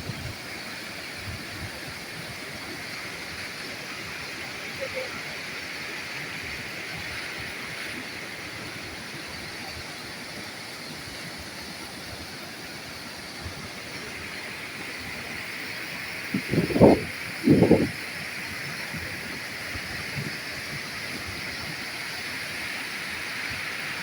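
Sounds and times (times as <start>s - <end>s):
water rushing over spillway: 0.0s - 24.0s.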